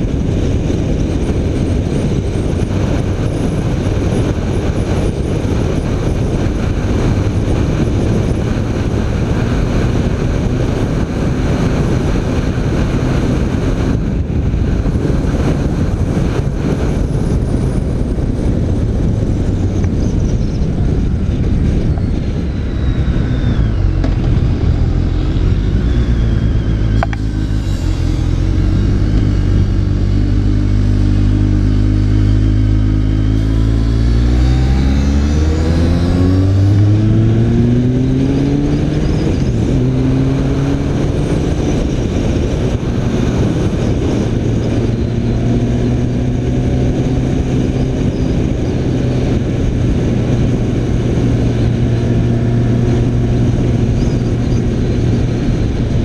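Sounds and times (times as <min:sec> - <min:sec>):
heavy wind and road rush: 0:00.0 - 0:56.0
motorcycle engine running: 0:00.0 - 0:56.0.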